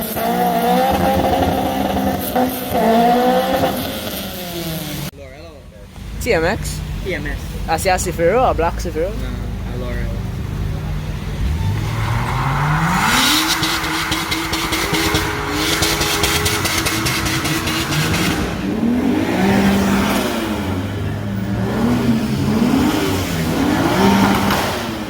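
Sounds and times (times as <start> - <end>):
car engine revving: 0.0 - 5.1, 5.8 - 25.0.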